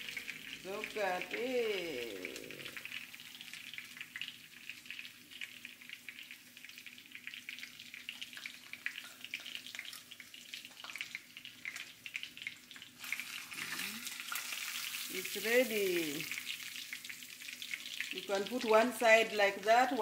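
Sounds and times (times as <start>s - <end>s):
butter sauce sizzling in skillet: 0.0s - 20.0s.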